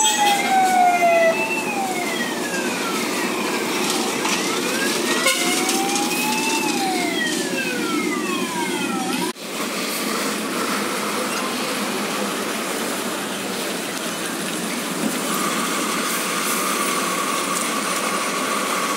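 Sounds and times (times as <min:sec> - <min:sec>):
fire truck siren wailing: 0:00.0 - 0:14.5, 0:15.3 - 0:18.9
heavy truck engines running: 0:00.0 - 0:18.9
street traffic: 0:00.0 - 0:18.9.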